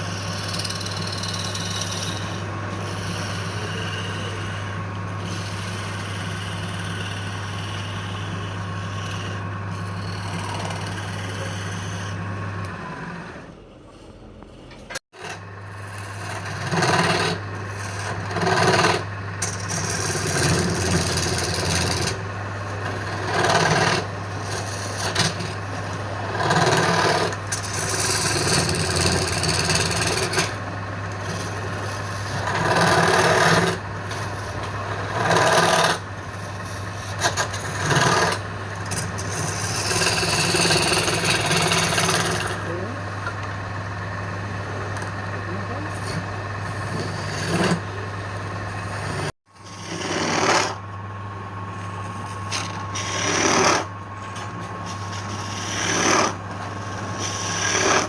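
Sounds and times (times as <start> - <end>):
rasping on spinning wood: 0.0 - 13.5, 15.2 - 50.8, 51.6 - 58.0
wood lathe humming: 0.0 - 13.7, 15.2 - 58.0.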